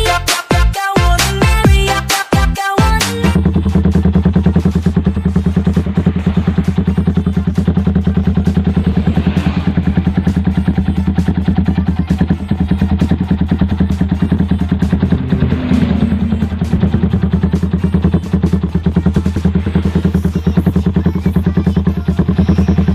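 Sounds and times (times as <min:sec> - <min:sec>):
motorcycle engine idling: 0:01.1 - 0:22.9.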